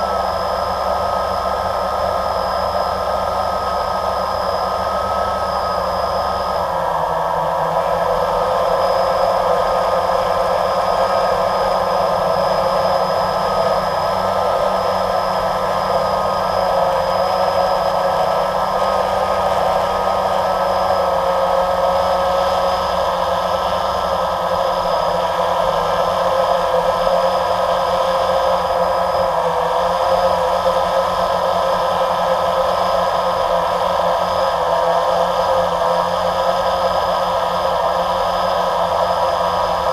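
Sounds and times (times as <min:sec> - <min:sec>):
drone propellers whirring: 0:00.0 - 0:39.9
high whine: 0:00.0 - 0:39.9.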